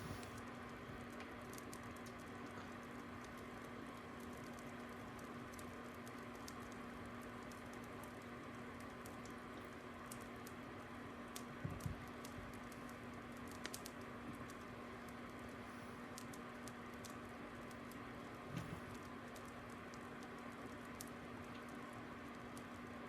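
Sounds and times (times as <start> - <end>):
faint steady hum: 0.0 - 23.0
fire crackling and popping: 0.0 - 23.0.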